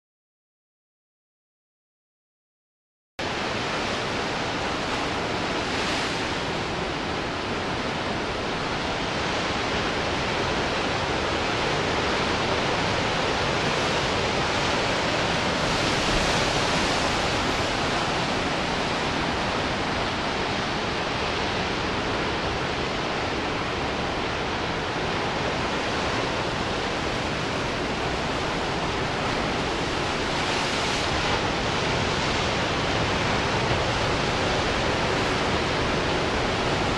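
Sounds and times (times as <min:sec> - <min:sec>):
surf breaking over rocks: 0:03.2 - 0:36.9.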